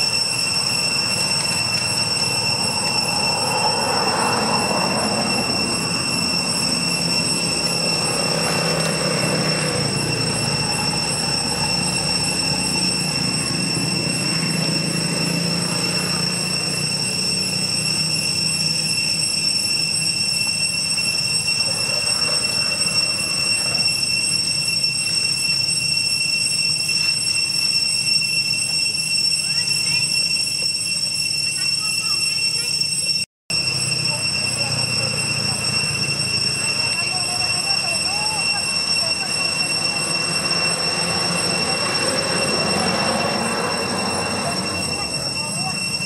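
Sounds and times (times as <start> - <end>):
cicadas whining: 0.0 - 46.0.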